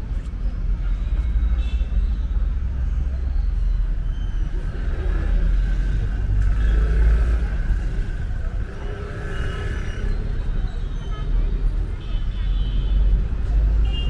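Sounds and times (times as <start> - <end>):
distant road traffic: 0.0 - 14.0
low street rumble: 0.0 - 14.0.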